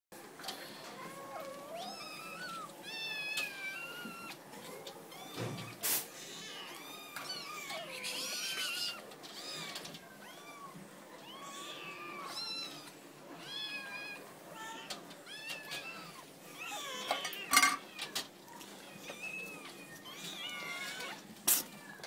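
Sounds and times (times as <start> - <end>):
kittens meowing: 0.6 - 22.0.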